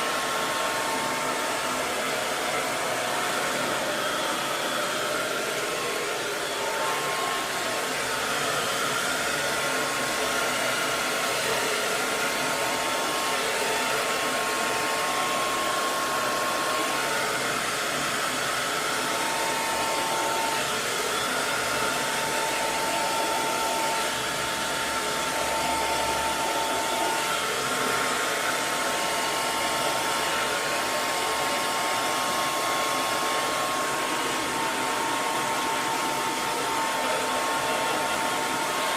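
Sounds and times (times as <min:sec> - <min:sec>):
hair dryer airflow: 0:00.0 - 0:38.9.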